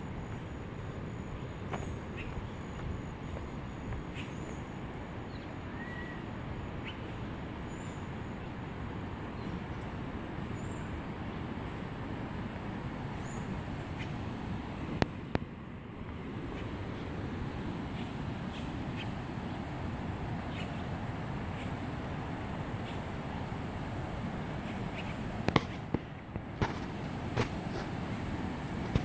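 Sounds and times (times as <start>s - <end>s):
birds chirping: 0.0s - 11.8s, 12.5s - 15.4s, 16.1s - 27.1s.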